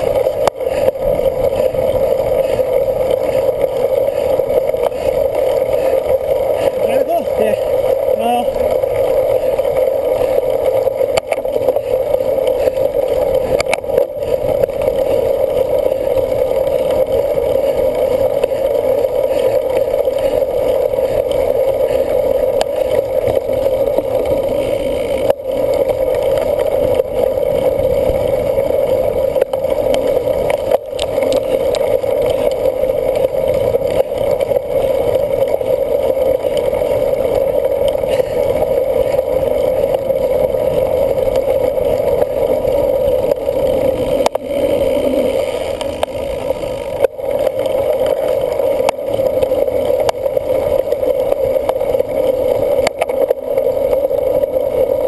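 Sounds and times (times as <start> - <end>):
bicycle clicks: 0.0 - 55.0
bicycle wind and tyre noise: 0.0 - 55.0.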